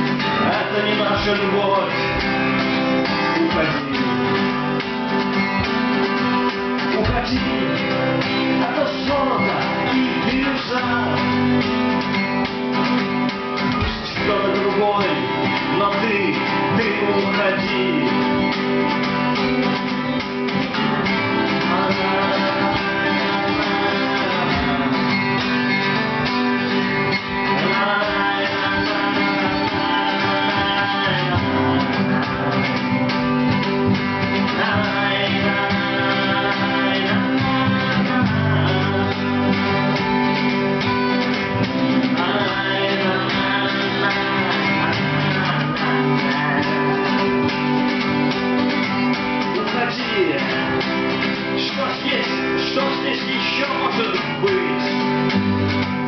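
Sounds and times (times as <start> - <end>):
acoustic guitars strummed: 0.0 - 56.0
melodic acoustic guitar line: 0.0 - 56.0.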